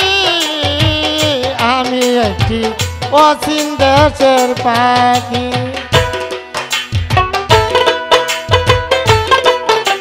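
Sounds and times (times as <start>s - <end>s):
driving drum beat: 0.0s - 10.0s
plucked-string melody: 0.0s - 10.0s.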